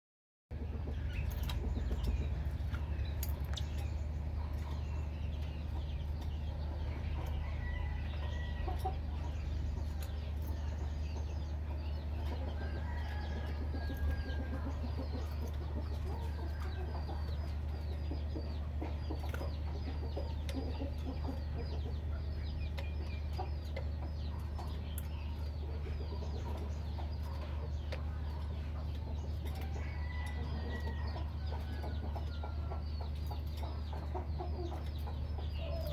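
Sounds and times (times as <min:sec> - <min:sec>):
birds chirping: 0:00.5 - 0:35.9
steady low hum: 0:00.5 - 0:35.9.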